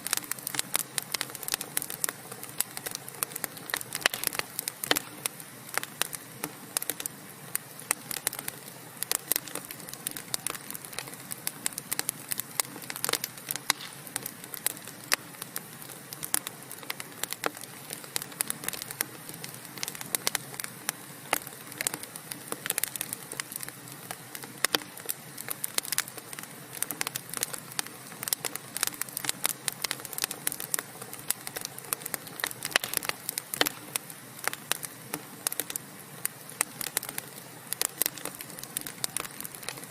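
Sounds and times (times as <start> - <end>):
fire crackling and popping: 0.0 - 39.9
hiss of burning logs: 0.0 - 39.9.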